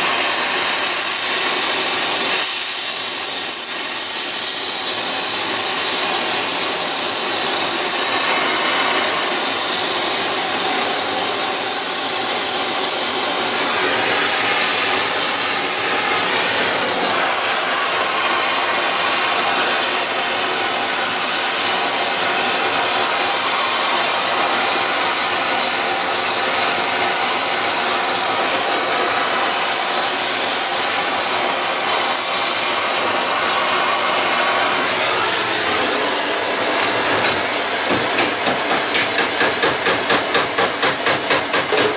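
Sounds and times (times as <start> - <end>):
gas torch hissing: 0.0 - 41.9.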